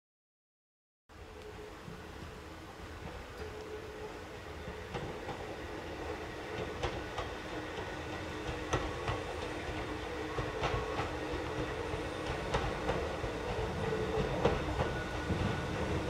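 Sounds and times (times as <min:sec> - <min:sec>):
electric train approaching: 0:01.1 - 0:16.0
wheels clicking on track: 0:01.4 - 0:16.0.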